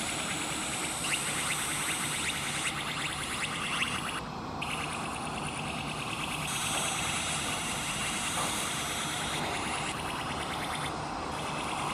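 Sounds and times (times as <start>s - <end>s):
high turbine whine: 0.0s - 11.9s.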